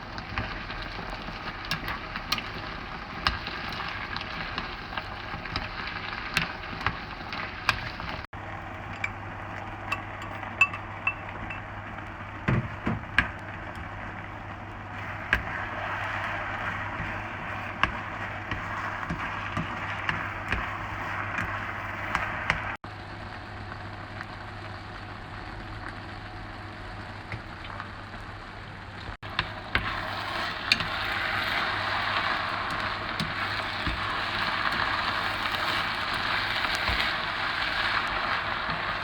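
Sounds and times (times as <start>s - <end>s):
noodles sizzling in a wok: 0.0s - 39.0s.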